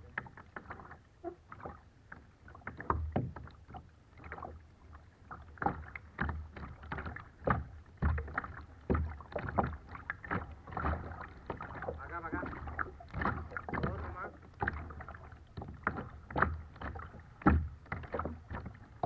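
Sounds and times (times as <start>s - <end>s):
paddle splashes and drips: 0.0s - 19.0s
water slapping a hull: 0.0s - 19.0s.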